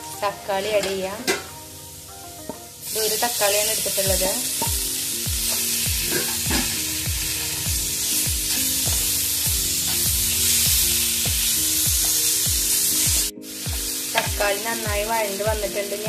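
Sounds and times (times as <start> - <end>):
background music with beat: 0.0 - 2.8, 4.1 - 16.0
vegetables sizzling in oil: 0.0 - 16.0.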